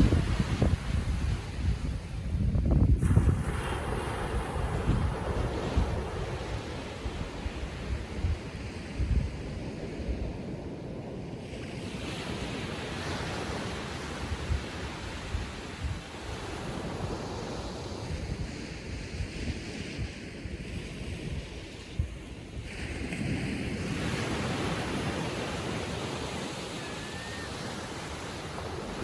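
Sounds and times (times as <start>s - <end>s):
small waves washing up beach: 0.0s - 29.0s
wind rumbling on microphone: 0.0s - 29.0s.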